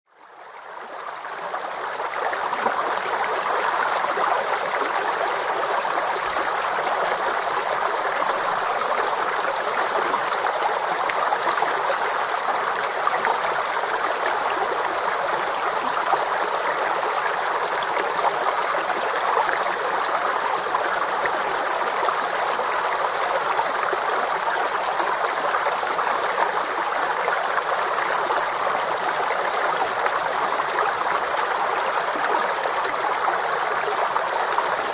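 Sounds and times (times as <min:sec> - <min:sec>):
water stream babbling: 0:00.2 - 0:34.9.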